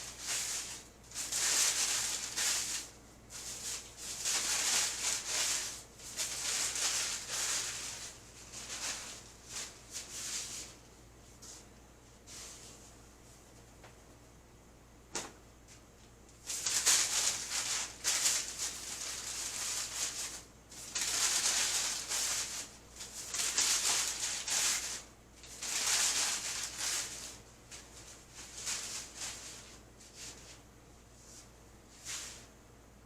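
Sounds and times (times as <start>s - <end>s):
rustling handling noise: 0.0s - 13.8s, 15.7s - 32.5s.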